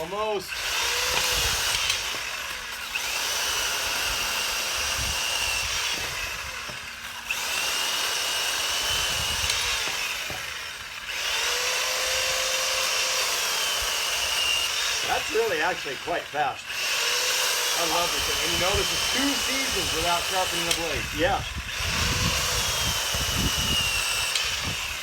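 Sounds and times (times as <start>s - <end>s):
electric chainsaw cutting wood: 0.0s - 25.0s.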